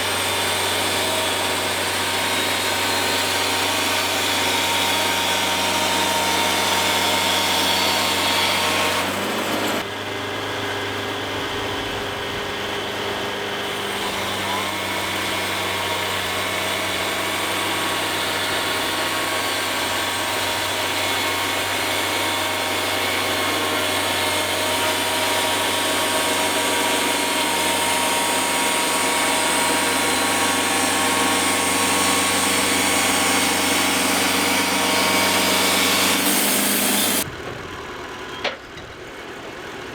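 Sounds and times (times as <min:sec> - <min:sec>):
band blade sawing through log: 0:00.0 - 0:09.8, 0:13.6 - 0:37.3
sawmill engine: 0:00.0 - 0:39.9.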